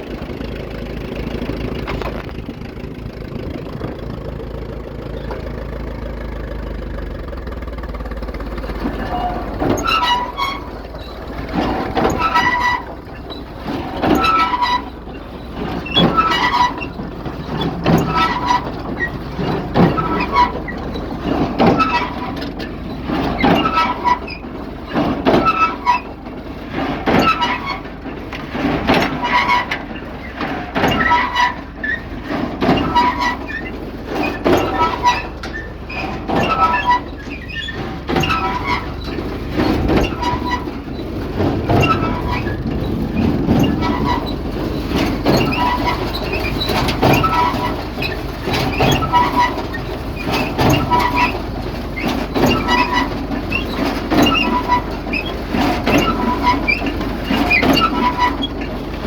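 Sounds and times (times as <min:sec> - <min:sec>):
baler clanking and rattling: 0:00.0 - 0:59.0.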